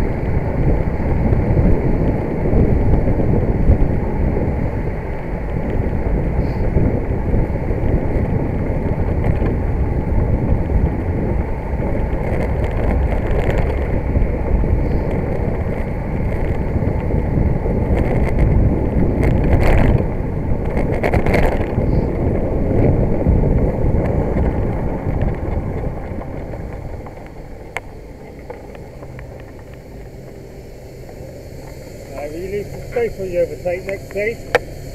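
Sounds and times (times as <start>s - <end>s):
road traffic: 0.0s - 34.9s
wind buffeting microphone: 0.0s - 34.9s.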